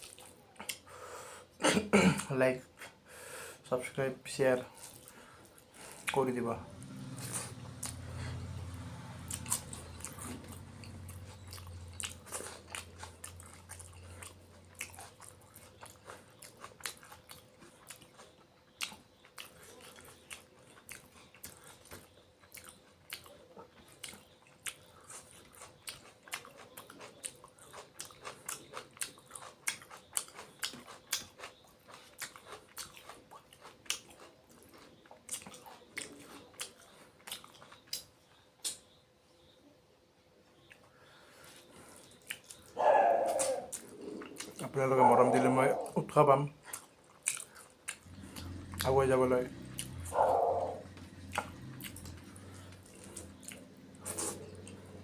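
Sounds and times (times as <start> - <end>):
person chewing food: 0.0 - 1.1, 4.6 - 39.0, 40.6 - 55.0.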